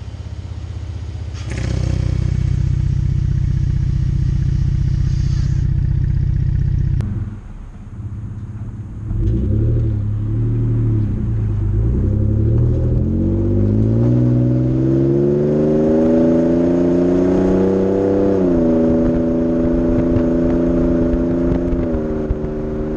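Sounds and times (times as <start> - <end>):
truck engine rumble and acceleration: 0.0 - 22.9.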